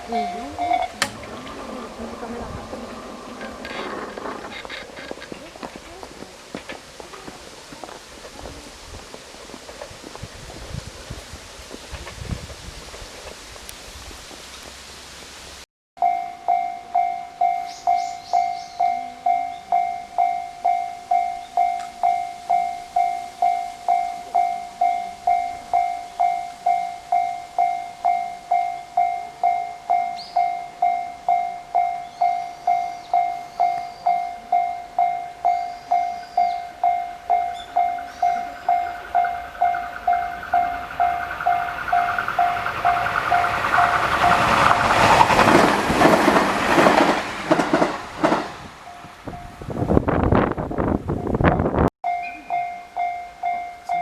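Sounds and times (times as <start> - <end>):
level-crossing warning bell: 0.0 - 9.6, 16.0 - 46.1, 48.8 - 50.4, 51.2 - 54.0
approaching train: 0.0 - 54.0.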